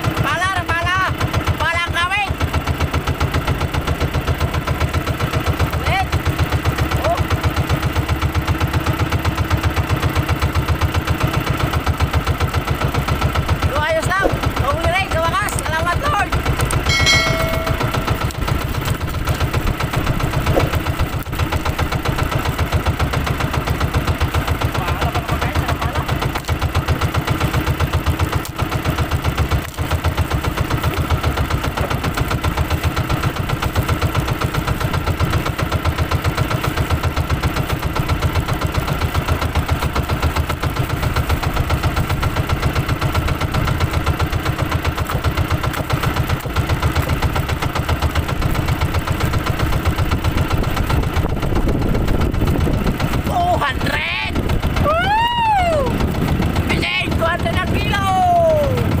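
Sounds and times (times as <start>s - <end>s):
boat engine chugging: 0.0s - 59.0s.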